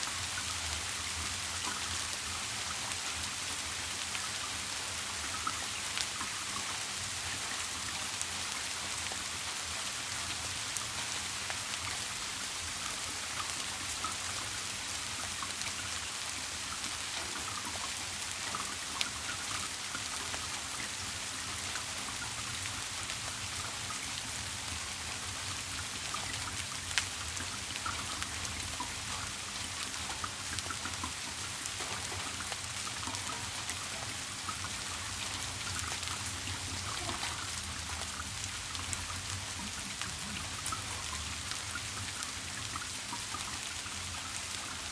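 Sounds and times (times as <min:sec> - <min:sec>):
raindrops ticking: 0:00.0 - 0:44.9
sharp drips: 0:00.0 - 0:44.9
steady rain: 0:00.0 - 0:44.9.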